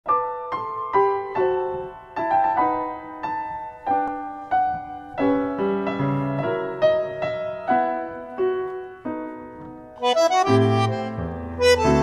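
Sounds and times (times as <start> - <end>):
piano chords: 0.1 - 12.0.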